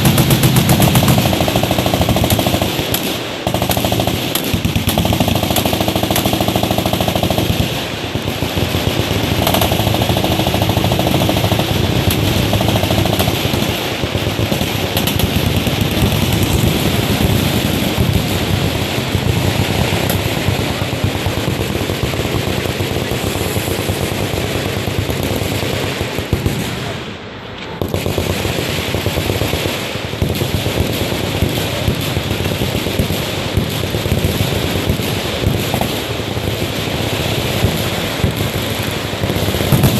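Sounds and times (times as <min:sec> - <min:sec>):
machine guns firing: 0:00.0 - 0:27.0, 0:27.7 - 0:39.9.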